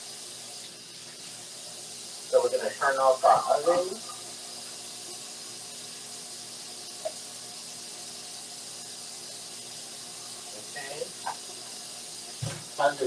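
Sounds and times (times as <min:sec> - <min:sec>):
faint hum: 0:00.0 - 0:13.0
steady hiss: 0:00.0 - 0:13.0.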